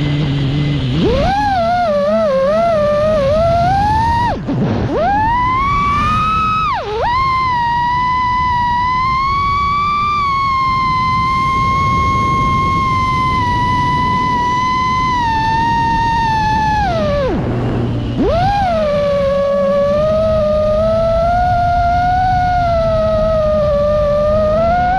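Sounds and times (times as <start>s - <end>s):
quadcopter motors whining: 0.0s - 24.9s.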